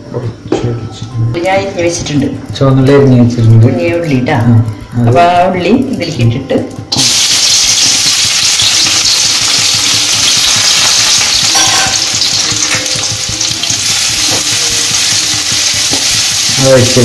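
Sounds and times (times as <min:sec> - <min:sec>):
shallots sizzling in oil: 0:01.4 - 0:17.0.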